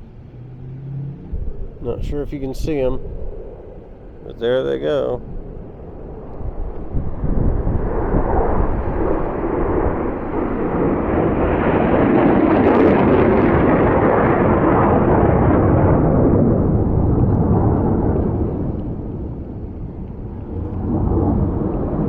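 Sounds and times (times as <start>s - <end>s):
aircraft flying over: 0.0s - 22.0s.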